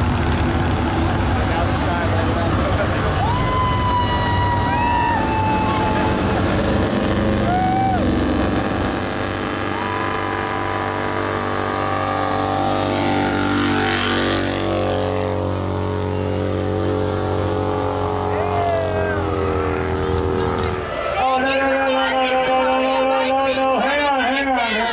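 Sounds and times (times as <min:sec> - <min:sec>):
motorcycle engine running hard: 0:00.0 - 0:20.9.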